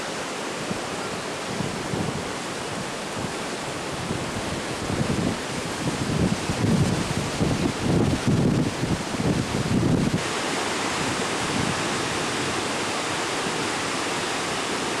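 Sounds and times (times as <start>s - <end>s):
rushing rapids: 0.0s - 15.0s
wind buffeting microphone: 0.4s - 14.9s.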